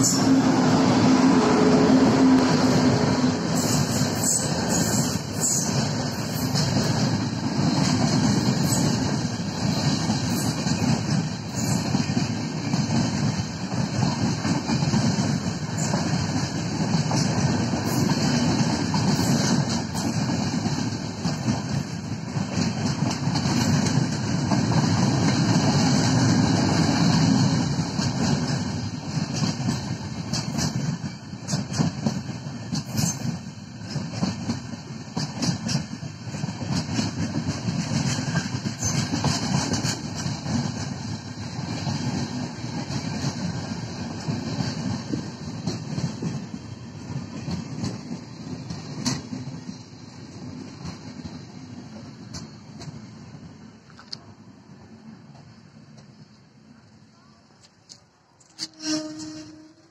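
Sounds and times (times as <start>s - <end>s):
train wheels rushing on rail: 0.0s - 59.9s
wheels clacking over rail joints: 2.1s - 53.1s.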